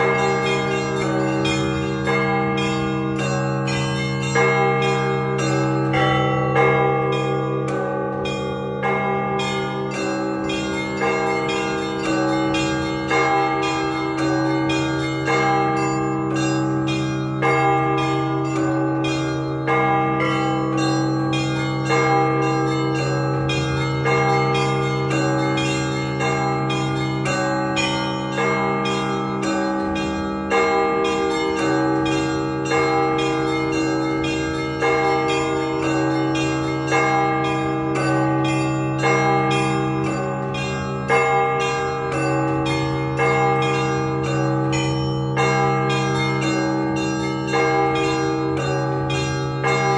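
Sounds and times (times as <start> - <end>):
deep large bell: 0.0 - 49.9
small bells chiming: 0.0 - 49.9.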